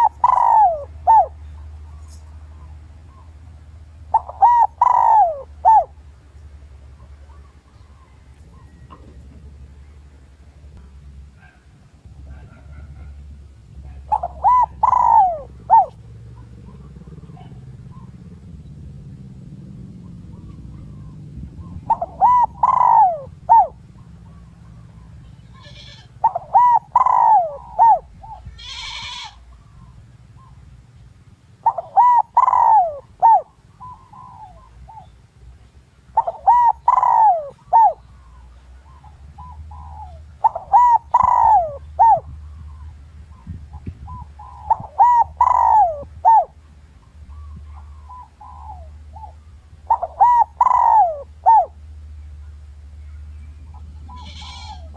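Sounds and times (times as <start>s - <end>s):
dove cooing: 0.0s - 6.1s, 11.4s - 30.8s, 31.6s - 35.2s, 36.1s - 54.9s.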